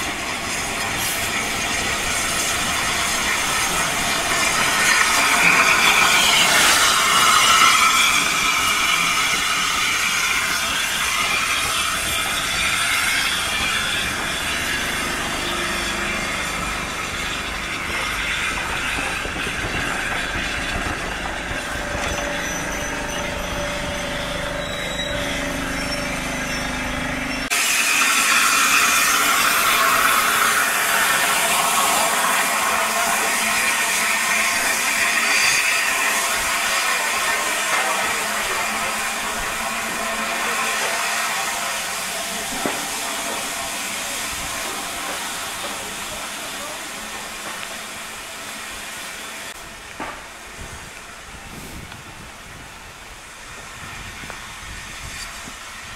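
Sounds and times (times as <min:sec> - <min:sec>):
steam hissing from locomotive: 0:00.0 - 0:55.9
train coaches rumbling past: 0:00.0 - 0:55.9.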